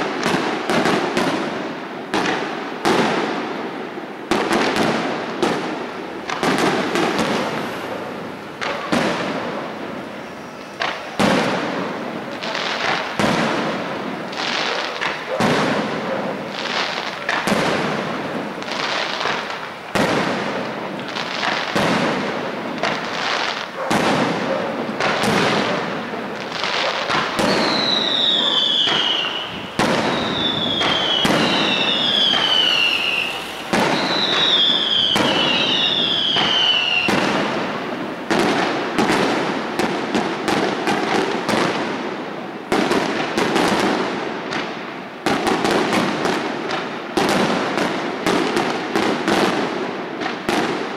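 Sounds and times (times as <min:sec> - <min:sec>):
falling whistles of fireworks: 0:00.0 - 0:42.0
fireworks bursting with bangs: 0:00.0 - 0:50.9
fireworks crackle: 0:00.0 - 0:50.9.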